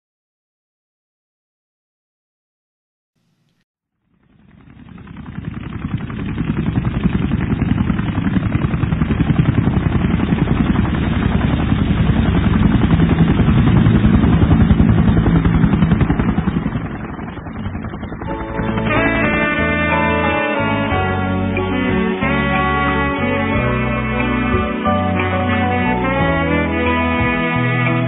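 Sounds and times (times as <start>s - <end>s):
helicopter rotor chopping: 3.2s - 28.0s
low engine hum: 4.0s - 28.0s.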